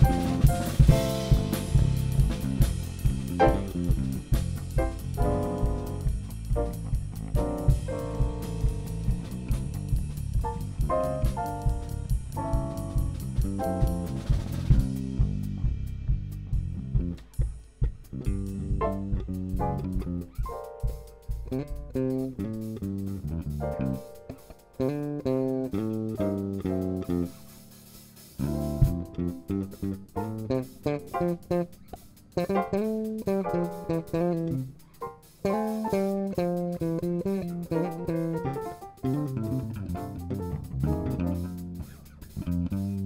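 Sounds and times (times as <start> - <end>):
electric bass solo: 0.0 - 43.0
light drum kit: 0.0 - 43.0.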